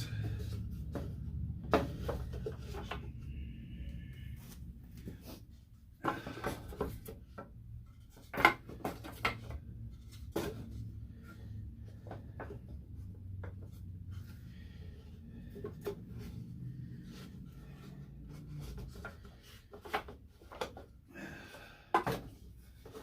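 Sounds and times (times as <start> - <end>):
wooden boards knocking and rubbing: 0.0 - 3.4, 4.8 - 21.0.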